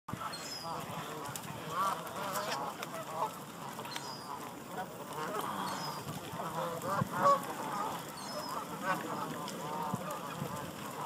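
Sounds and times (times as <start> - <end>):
flock of geese calling: 0.1 - 11.0.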